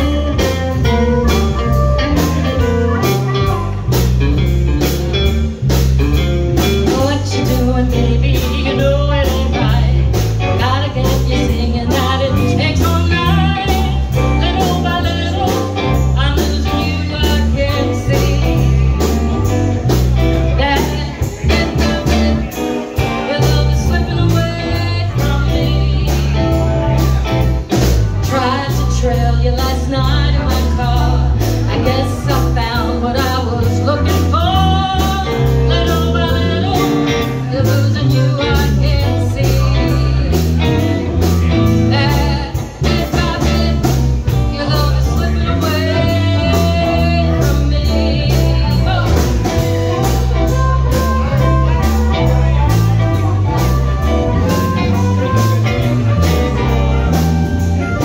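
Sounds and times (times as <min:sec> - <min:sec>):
woman singing: 0:00.0 - 0:05.2, 0:06.6 - 0:58.0
drums: 0:00.0 - 0:58.0
electric bass: 0:00.0 - 0:58.0
electric guitar: 0:00.0 - 0:58.0.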